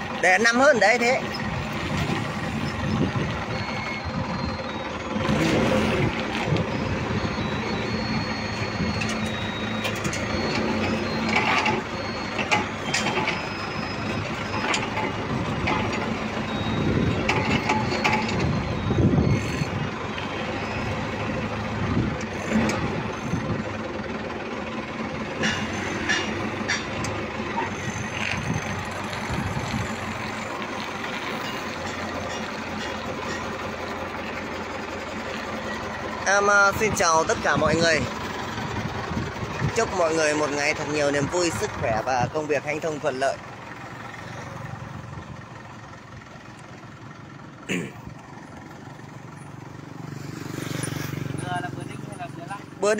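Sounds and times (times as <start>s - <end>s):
forklift engine running: 0.0s - 52.9s.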